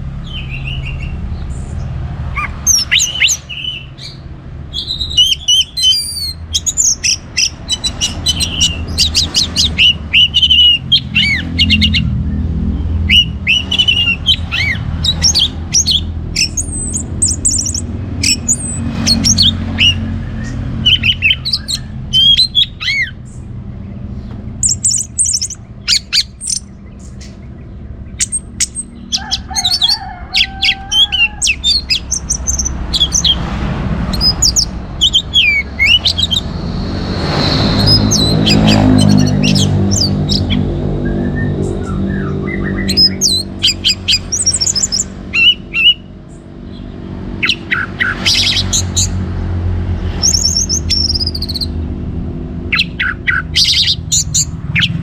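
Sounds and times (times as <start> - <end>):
thrush singing: 0.0 - 46.2, 47.0 - 55.0
steady low rumble: 0.0 - 55.0.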